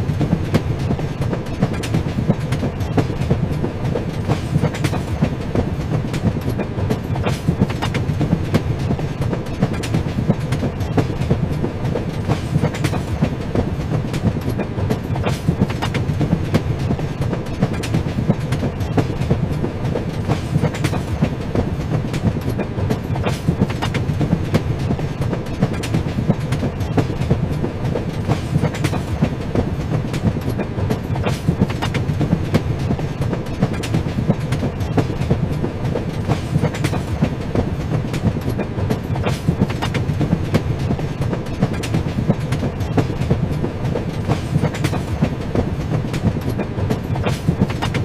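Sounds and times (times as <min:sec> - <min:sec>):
train rumbling on track: 0:00.0 - 0:48.0
wheels clicking over rail joints: 0:00.0 - 0:48.0.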